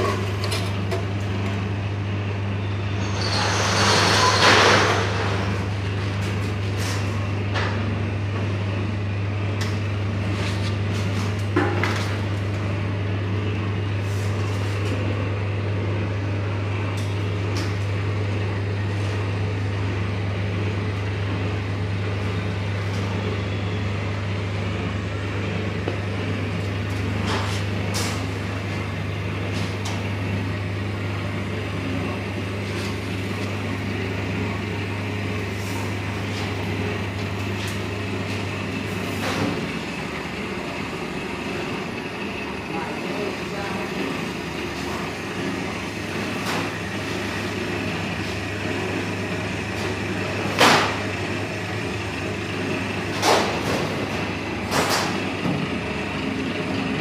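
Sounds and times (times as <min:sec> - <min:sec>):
griller low hum: 0:00.0 - 0:57.0.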